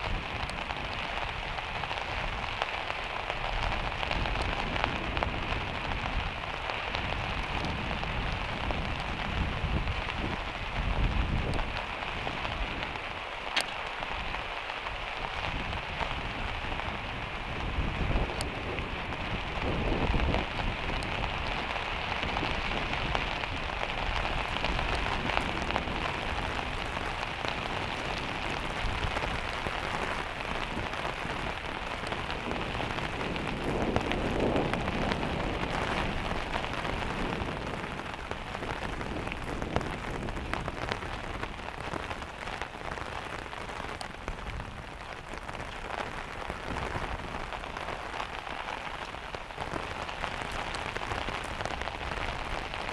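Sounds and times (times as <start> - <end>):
rain drumming on metal roof: 0.0 - 52.9.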